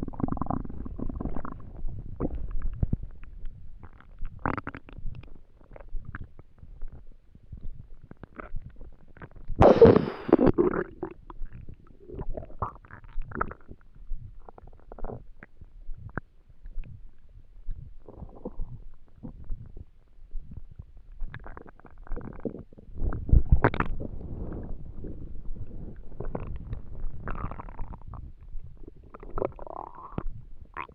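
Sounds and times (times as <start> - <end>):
stomach growling and gurgling: 0.0 - 30.9.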